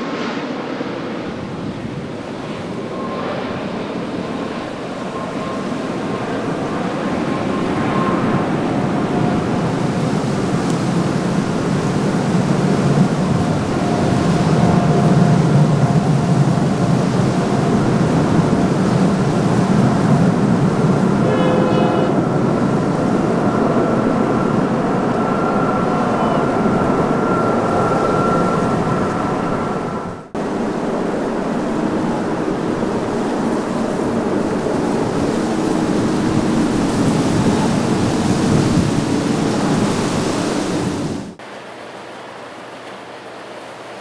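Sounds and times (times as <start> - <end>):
jet engines roaring: 0.0 - 42.4.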